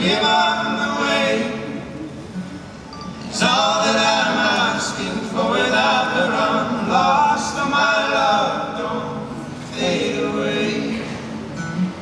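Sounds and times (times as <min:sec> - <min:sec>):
men singing in harmony: 0:00.0 - 0:01.9, 0:03.3 - 0:11.4
acoustic guitar: 0:00.0 - 0:12.0.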